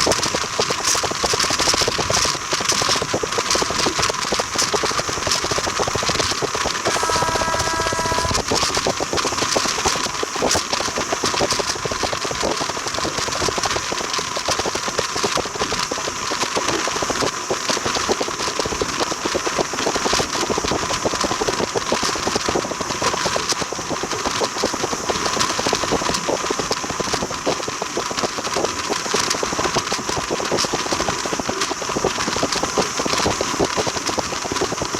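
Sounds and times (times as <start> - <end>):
train rattling over track: 0.0 - 34.9.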